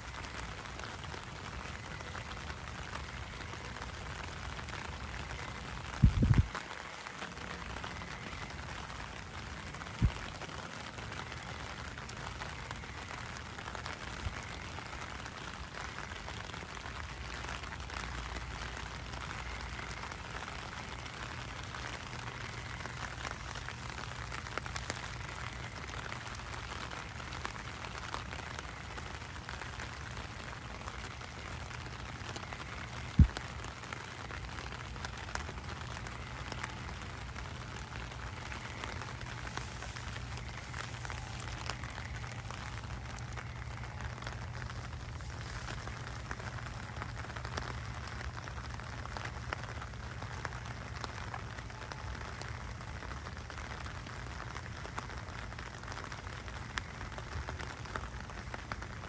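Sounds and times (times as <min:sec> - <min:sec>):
rain on wet pavement: 0:00.0 - 0:59.0.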